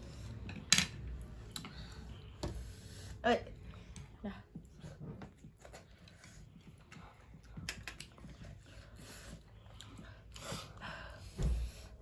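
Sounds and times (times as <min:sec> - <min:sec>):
quiet eating sounds: 0:00.0 - 0:12.0.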